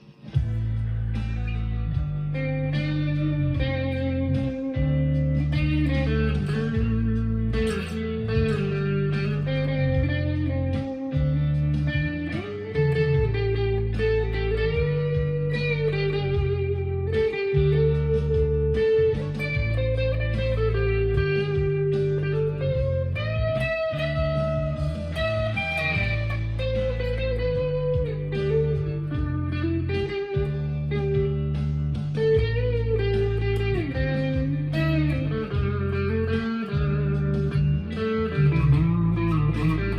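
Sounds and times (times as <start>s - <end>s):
electric guitar lead line: 0.0s - 39.9s.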